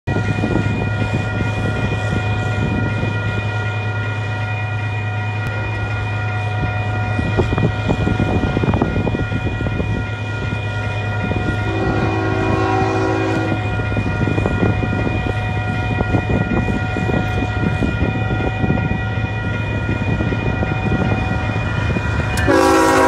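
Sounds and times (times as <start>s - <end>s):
crossing warning bell ringing: 0.1s - 23.0s
freight train low rumble: 0.1s - 23.0s.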